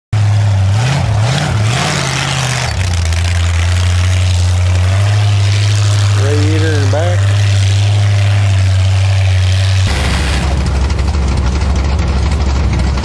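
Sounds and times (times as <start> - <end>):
truck engine revving: 0.2 - 13.0
tyres churning snow: 0.2 - 13.0.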